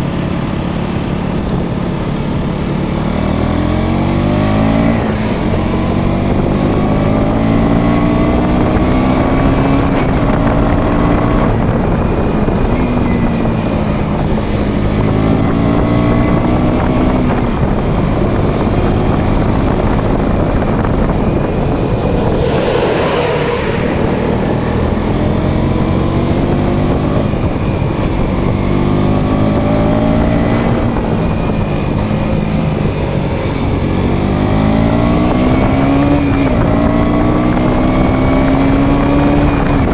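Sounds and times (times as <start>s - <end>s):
motorcycle engine accelerating: 0.0s - 39.9s
wind on microphone: 0.0s - 39.9s
rush of noise: 4.5s - 39.9s.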